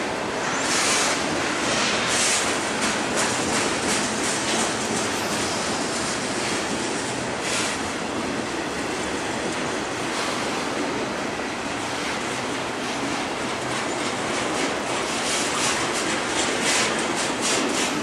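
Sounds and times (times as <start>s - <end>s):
freight train wheels on rail: 0.0s - 18.0s.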